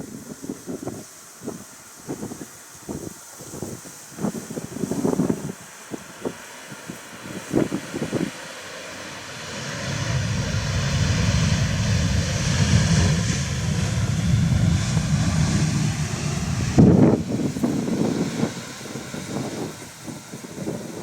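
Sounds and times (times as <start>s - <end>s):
jet engines of landing airliner: 0.0s - 21.0s
wind gusting on microphone: 0.0s - 21.0s.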